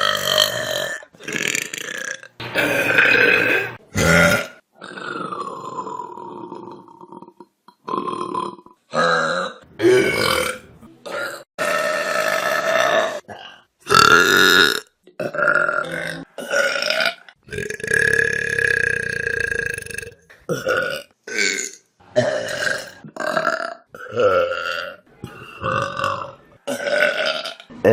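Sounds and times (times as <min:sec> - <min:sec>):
person burping: 0:00.0 - 0:27.9.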